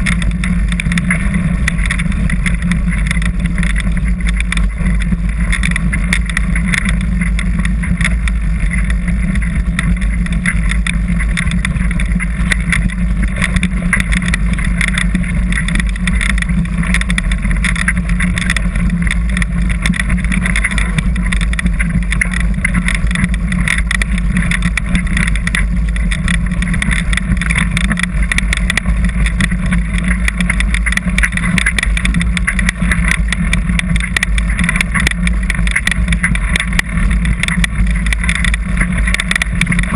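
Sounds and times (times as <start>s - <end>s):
bike rattling and knocking: 0.0s - 39.9s
wind and rolling noise: 0.0s - 39.9s.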